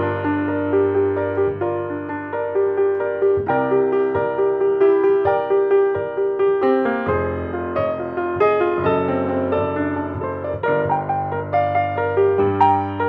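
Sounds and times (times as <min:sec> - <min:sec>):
solo grand piano: 0:00.0 - 0:13.0.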